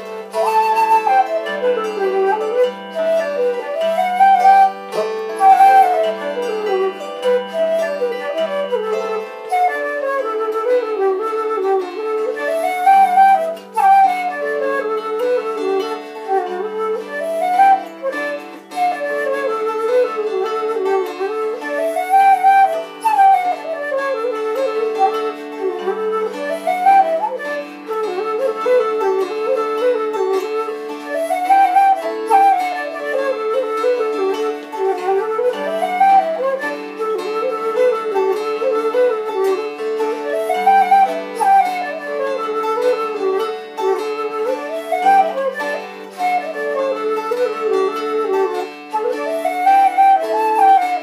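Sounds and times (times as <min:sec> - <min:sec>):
harp plucking accompaniment: 0:00.0 - 0:51.0
wooden flute playing a jig: 0:00.0 - 0:51.0.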